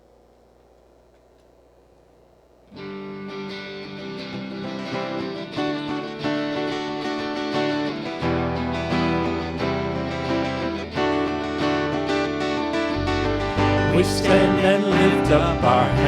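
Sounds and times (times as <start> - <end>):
strummed guitar chords: 2.7 - 16.0.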